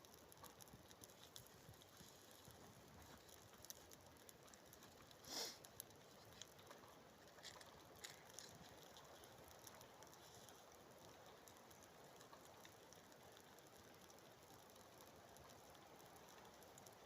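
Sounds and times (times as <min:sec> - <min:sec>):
small campfire crackling: 0:00.0 - 0:17.0.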